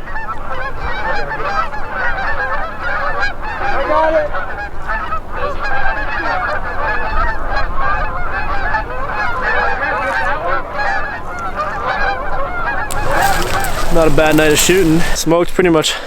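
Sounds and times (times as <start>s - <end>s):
geese honking: 0.0s - 15.4s.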